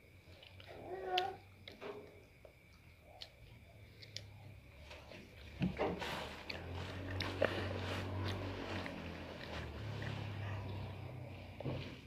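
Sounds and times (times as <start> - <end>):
eating clicks and rustles: 0.3 - 12.0
steady low hum: 1.4 - 12.0.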